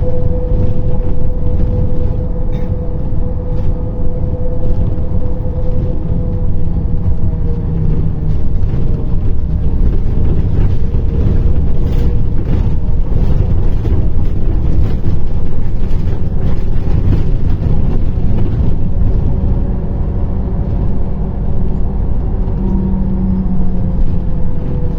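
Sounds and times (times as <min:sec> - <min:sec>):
bus engine and road rumble: 0:00.0 - 0:24.9.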